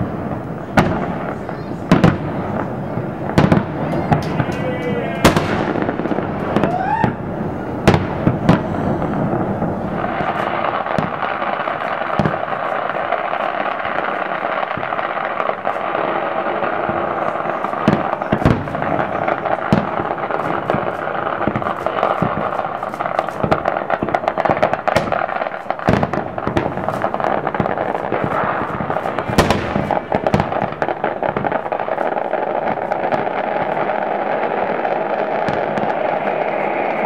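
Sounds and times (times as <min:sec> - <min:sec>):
crackle of firework stars: 0:00.0 - 0:37.0
firework shells bursting: 0:00.0 - 0:37.0.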